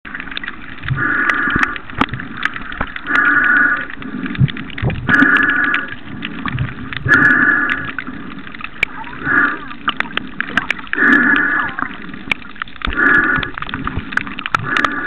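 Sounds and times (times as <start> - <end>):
sharp clicks and crackles: 0.1 - 15.0
breathing through snorkel tube: 0.9 - 4.4, 5.1 - 8.4, 9.2 - 15.0.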